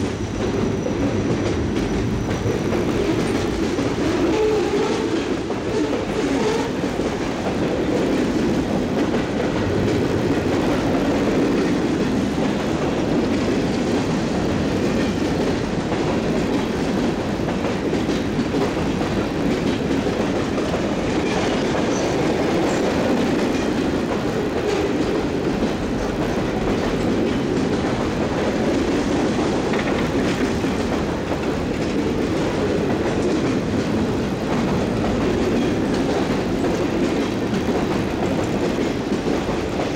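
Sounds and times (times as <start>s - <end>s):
steel wheels running on rails: 0.0s - 39.9s.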